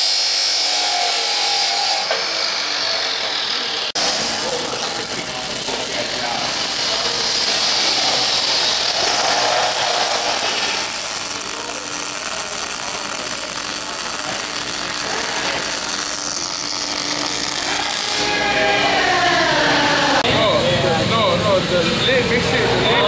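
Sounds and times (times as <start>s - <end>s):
arc welding on metal: 0.0s - 18.5s.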